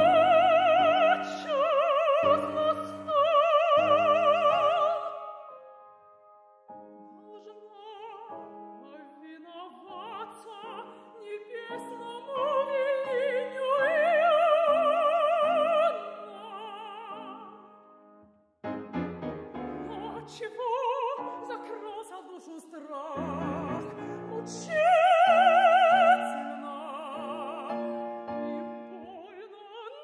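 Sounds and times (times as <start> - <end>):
woman singing opera: 0.0 - 5.6, 7.2 - 17.8, 19.8 - 30.0
grand piano accompaniment: 0.0 - 29.7.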